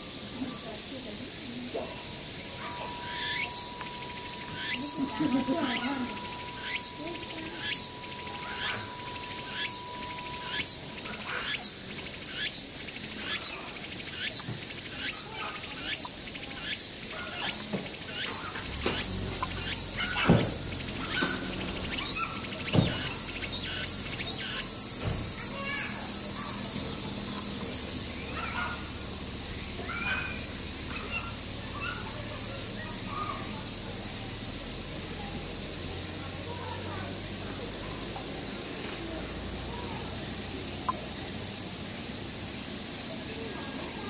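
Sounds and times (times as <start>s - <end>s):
insects chirping: 0.0s - 44.0s
steady high insect buzz: 0.0s - 44.0s.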